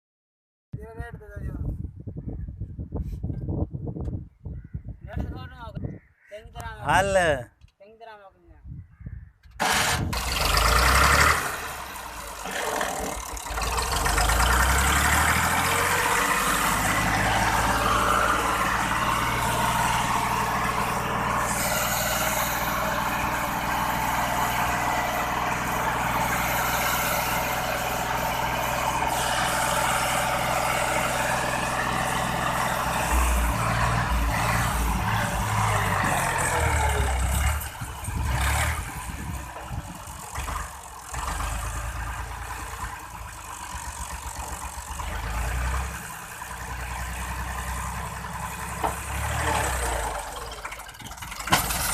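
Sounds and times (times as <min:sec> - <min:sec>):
tractor engine running: 0:09.5 - 0:51.9.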